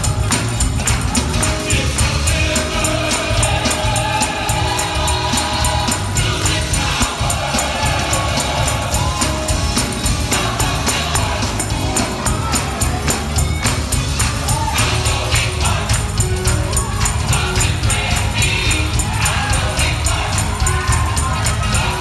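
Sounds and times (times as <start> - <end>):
choir singing gospel: 0.0 - 22.0
steady beat: 0.0 - 22.0.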